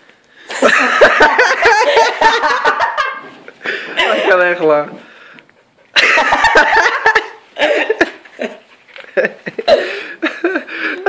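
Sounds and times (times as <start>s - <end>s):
person laughing in breathy bursts: 0.4s - 4.5s, 5.9s - 11.0s.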